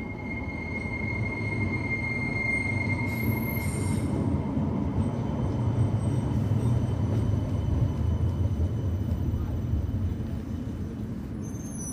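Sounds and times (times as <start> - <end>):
tram running rumble: 0.0 - 11.9
tram wheels squealing: 0.0 - 11.9.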